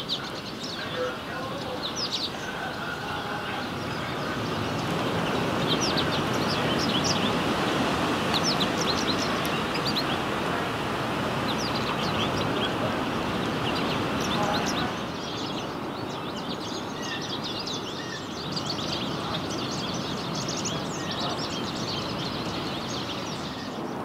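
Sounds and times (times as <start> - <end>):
birds chirping: 0.0 - 24.0
steady rushing noise: 0.0 - 24.0.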